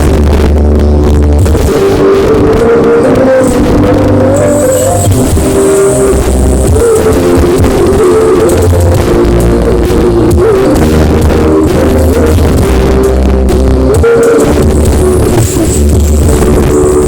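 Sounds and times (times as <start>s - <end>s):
loud dance music with heavy bass: 0.0s - 17.0s.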